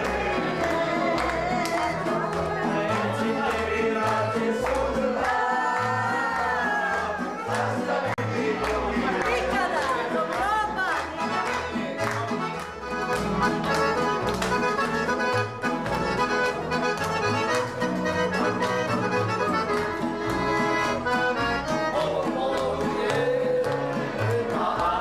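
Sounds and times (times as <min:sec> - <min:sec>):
accordion dance melody: 0:00.0 - 0:25.0.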